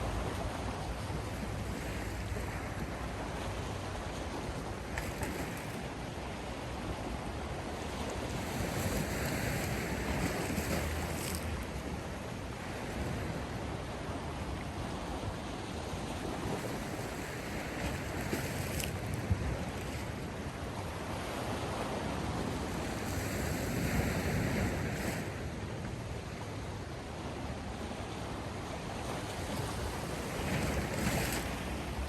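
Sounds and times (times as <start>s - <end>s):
sea waves washing onto shore: 0.0s - 32.0s.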